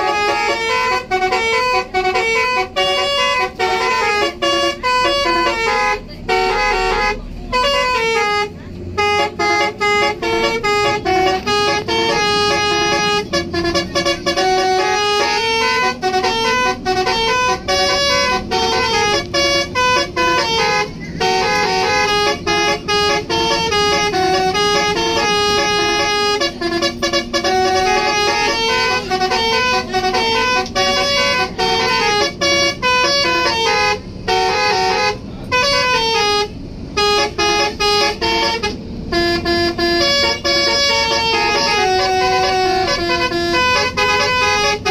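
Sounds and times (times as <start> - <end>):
multi-tone air horn melody: 0.0 - 44.9.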